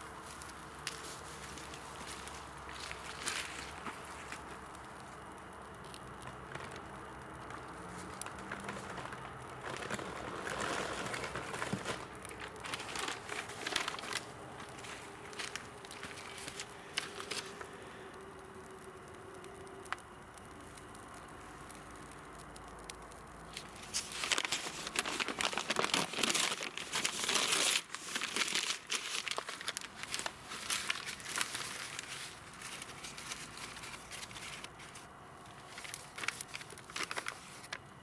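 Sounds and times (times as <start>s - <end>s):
crinkling and rustling: 0.0s - 38.0s.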